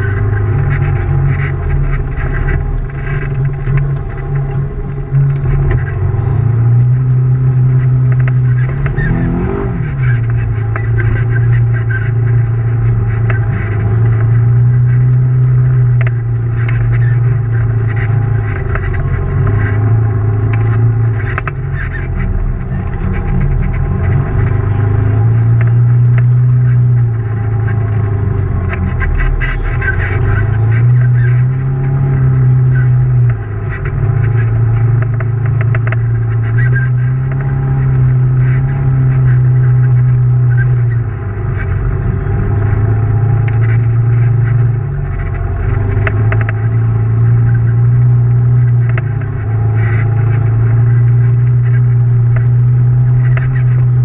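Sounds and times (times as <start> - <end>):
rattles and knocks of vehicle: 0.0 - 54.0
utility vehicle engine running: 0.0 - 54.0.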